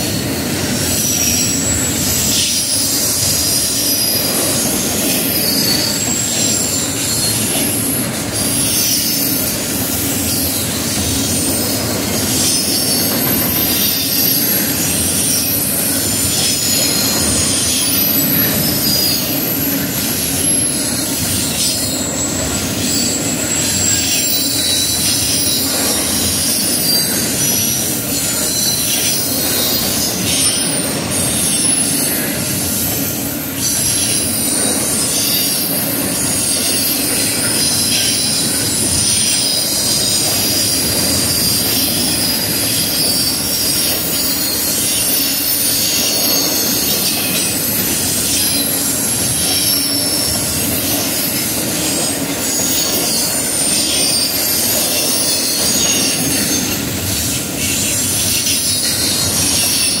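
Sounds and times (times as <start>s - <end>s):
train wheels rumbling on rails: 0.0s - 60.0s
wheel squeal: 0.0s - 60.0s.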